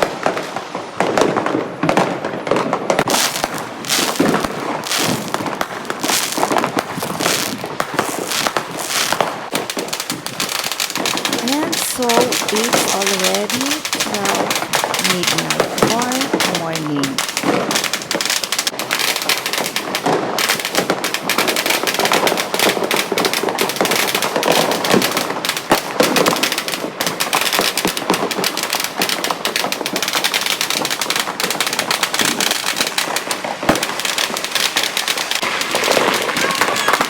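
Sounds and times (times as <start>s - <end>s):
fireworks cracking and popping: 0.0s - 37.0s.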